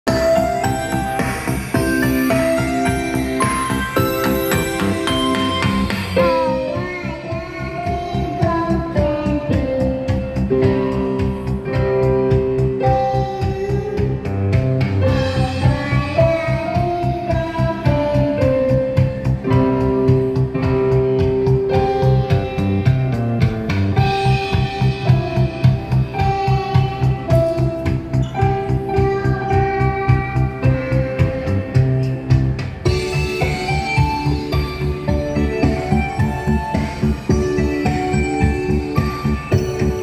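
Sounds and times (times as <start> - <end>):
electronic keyboard: 0.0 - 40.0
drum kit beat: 0.1 - 40.0.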